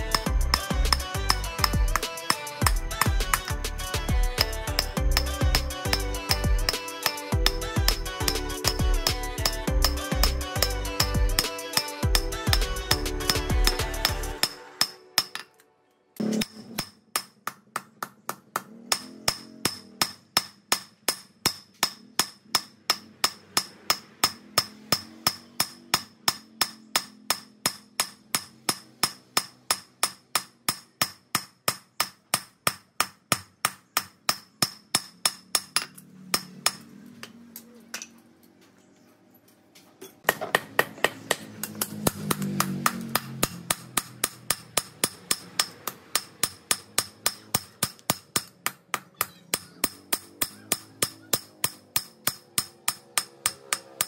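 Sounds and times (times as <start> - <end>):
hammer striking steel on anvil: 0.0 - 3.7, 4.3 - 15.6, 16.2 - 38.2, 40.0 - 54.0.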